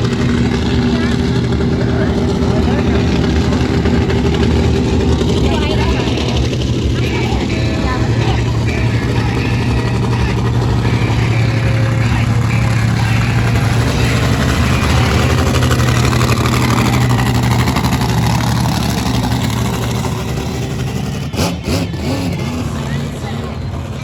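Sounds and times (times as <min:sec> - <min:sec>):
busy outdoor din: 0:00.0 - 0:24.0
low engine hum: 0:00.0 - 0:24.0.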